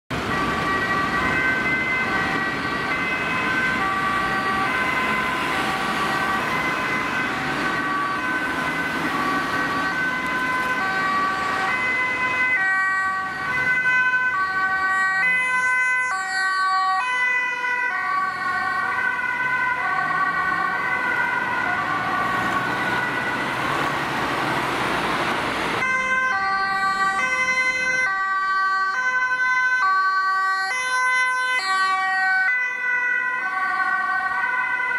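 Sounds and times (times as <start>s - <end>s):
ambulance two-tone siren: 0.1s - 34.9s
road and engine noise: 0.1s - 34.9s.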